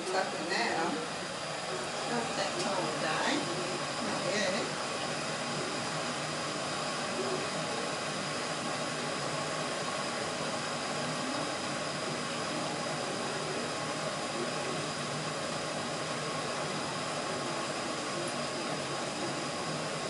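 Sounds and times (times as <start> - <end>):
electric kettle heating water: 0.0 - 20.0.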